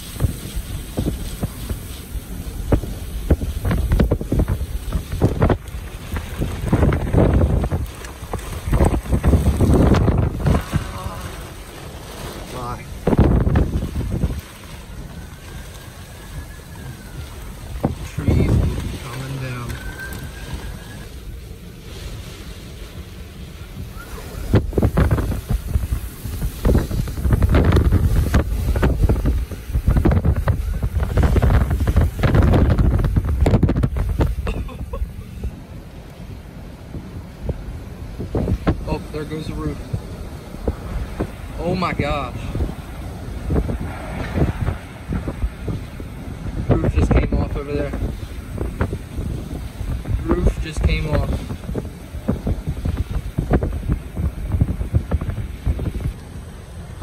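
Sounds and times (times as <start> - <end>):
heavy rain: 0.0 - 57.0
wind gusting against car: 0.0 - 57.0.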